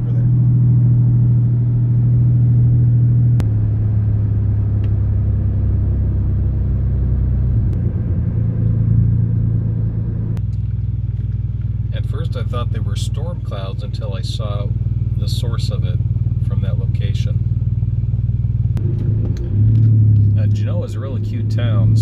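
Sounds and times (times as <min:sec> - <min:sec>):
car engine and road drone: 0:00.0 - 0:22.0.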